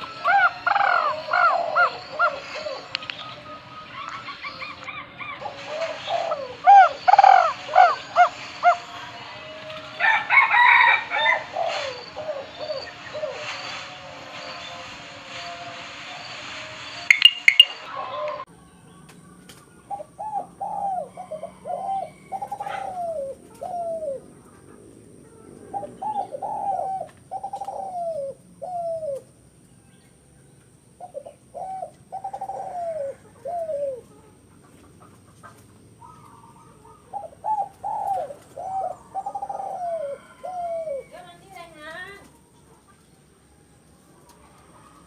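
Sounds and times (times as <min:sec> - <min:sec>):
dove cooing: 0:00.0 - 0:13.8, 0:17.1 - 0:18.5, 0:19.2 - 0:29.5, 0:30.9 - 0:43.0.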